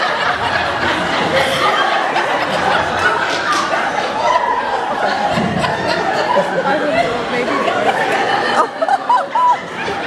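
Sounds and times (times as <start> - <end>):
audience laughing: 0.0 - 10.0
scattered voices: 0.0 - 10.0.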